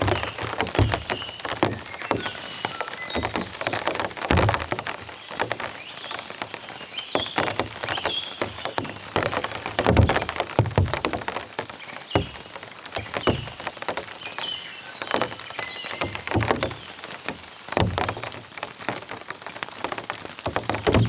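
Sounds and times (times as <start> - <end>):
birds chirping faintly: 0.0 - 21.0
heavy rain: 0.0 - 21.0.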